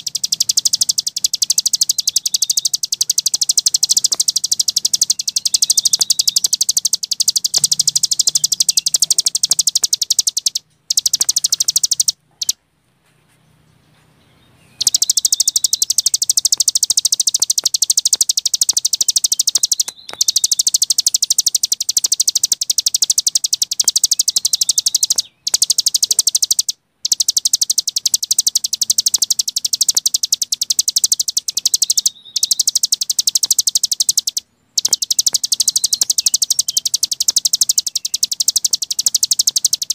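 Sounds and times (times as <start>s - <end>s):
songbird trilling: 0.0s - 12.6s, 14.4s - 39.9s.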